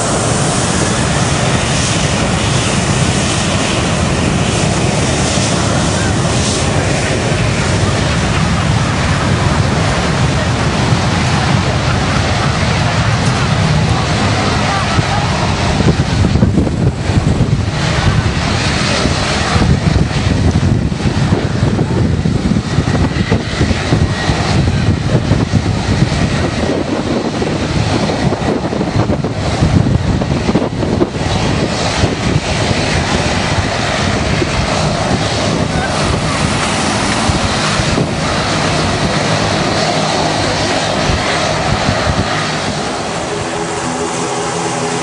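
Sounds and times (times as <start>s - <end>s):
jet engines roaring: 0.0s - 45.0s
wind buffeting microphone: 0.0s - 45.0s.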